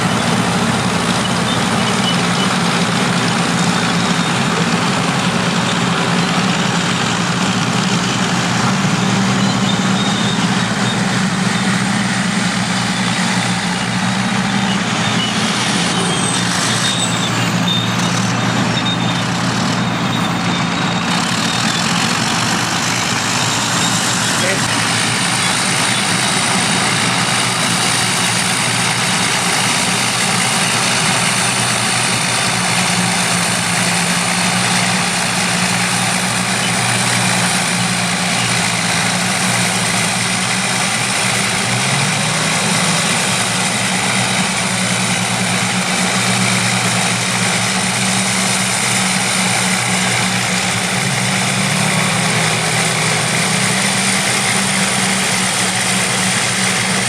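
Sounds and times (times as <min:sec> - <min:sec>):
bulldozer engines running: 0:00.0 - 0:57.0.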